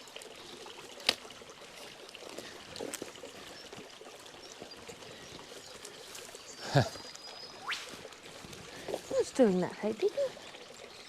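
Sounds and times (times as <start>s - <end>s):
creek trickling over stones: 0.0s - 11.0s.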